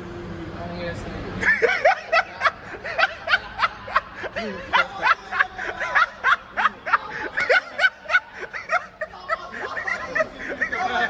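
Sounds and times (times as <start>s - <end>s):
young men laughing: 1.4s - 11.0s.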